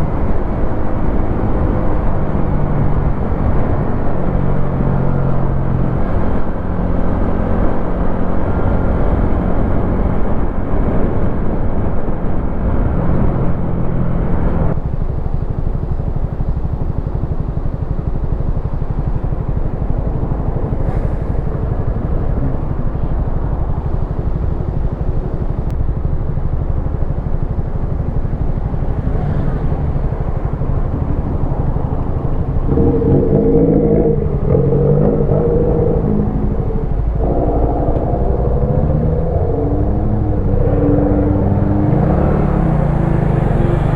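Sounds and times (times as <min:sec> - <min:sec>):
motorcycle engine running: 0:00.0 - 0:43.9
wind rumble on microphone: 0:00.0 - 0:43.9.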